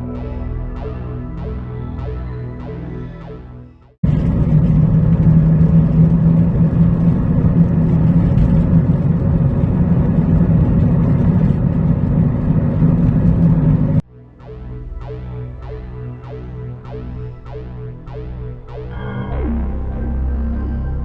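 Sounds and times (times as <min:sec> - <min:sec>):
droning roar with low hum: 0:00.0 - 0:21.0.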